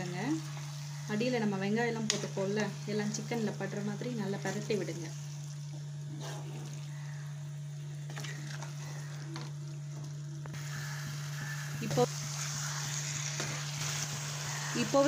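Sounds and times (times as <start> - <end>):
chicken sizzling in a pan: 0.0 - 15.0
steady low hum: 0.0 - 15.0.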